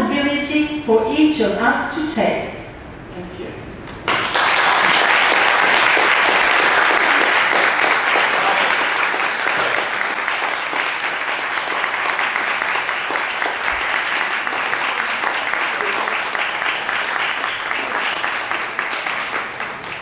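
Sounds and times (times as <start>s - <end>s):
audience applauding: 3.9s - 20.0s.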